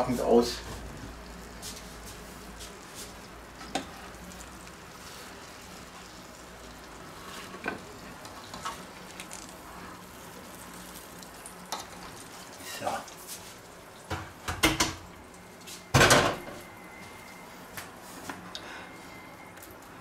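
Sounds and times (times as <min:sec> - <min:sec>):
fat sizzling in a tray: 0:00.0 - 0:18.2.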